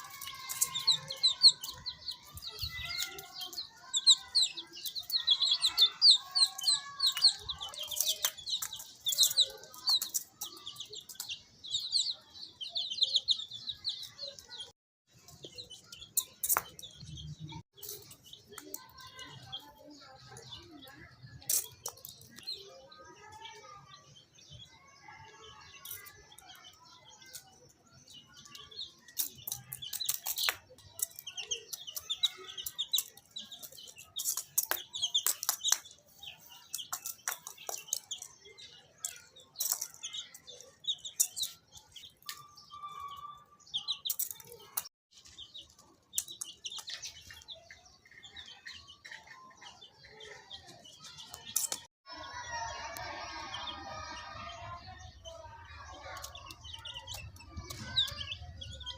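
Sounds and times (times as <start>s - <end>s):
chicks peeping: 0.0s - 58.9s.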